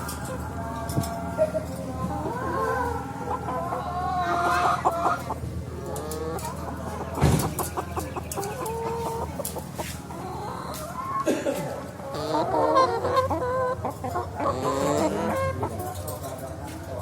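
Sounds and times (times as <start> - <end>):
chickens clucking and squawking: 0.0 - 17.0.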